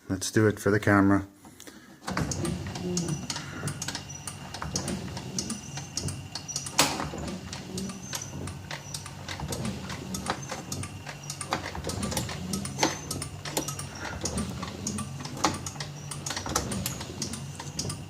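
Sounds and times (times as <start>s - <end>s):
rapid irregular clicking: 2.0s - 18.0s
washer pump motor humming: 2.0s - 18.0s.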